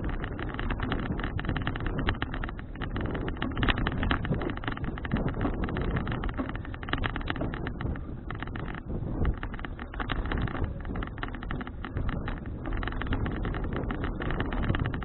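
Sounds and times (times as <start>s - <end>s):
short crackles: 0.0s - 15.0s
wind buffeting microphone: 0.0s - 15.0s.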